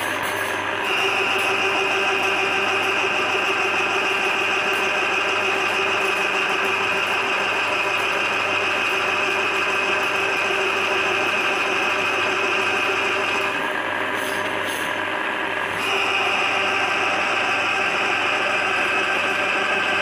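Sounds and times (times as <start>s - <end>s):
drain cleaning machine whine: 0.0s - 20.0s.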